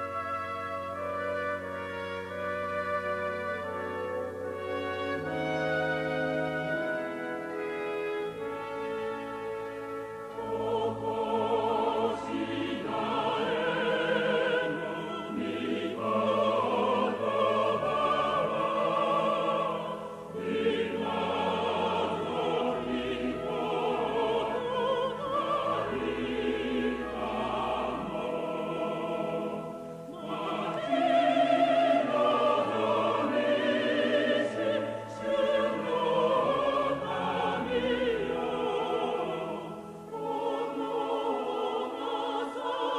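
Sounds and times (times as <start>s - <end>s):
choir singing a hymn: 0.0s - 42.9s
orchestra: 0.0s - 42.9s.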